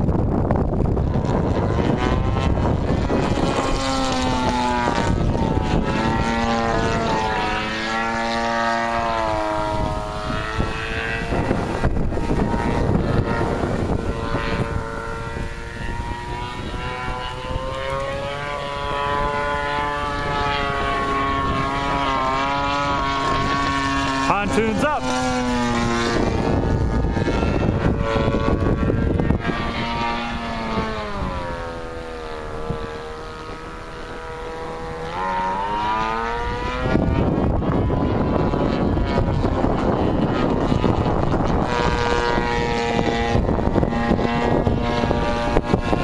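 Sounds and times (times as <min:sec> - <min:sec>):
model plane propeller engine: 0:00.0 - 0:46.0.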